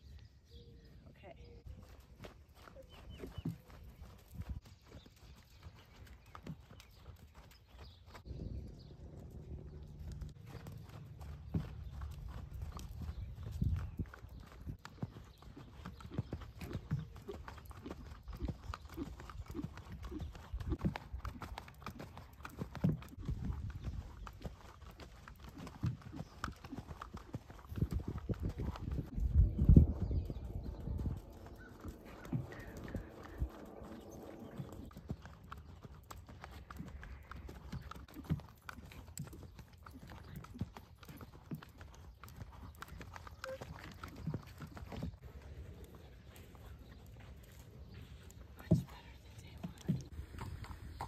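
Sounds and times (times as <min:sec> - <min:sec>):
horse hoofbeats on sand: 0:01.4 - 0:51.0.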